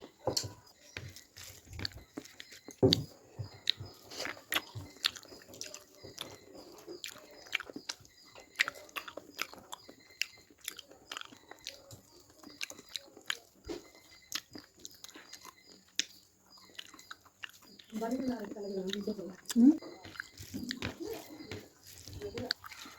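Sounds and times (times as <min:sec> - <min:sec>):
person chewing and crunching: 0:00.1 - 0:22.9.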